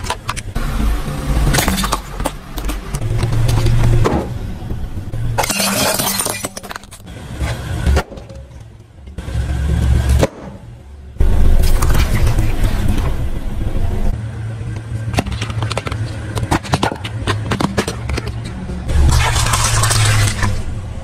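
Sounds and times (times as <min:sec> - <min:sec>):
car rumble: 0:00.0 - 0:21.0.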